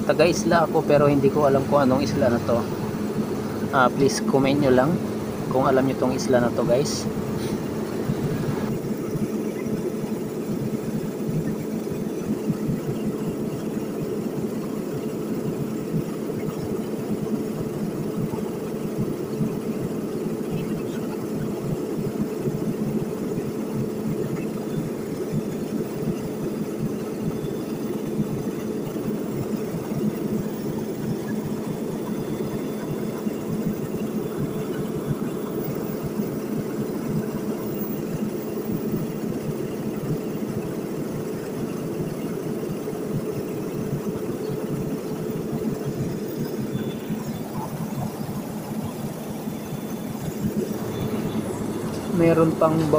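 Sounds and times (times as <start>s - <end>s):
propeller plane cabin drone: 0.0s - 52.9s.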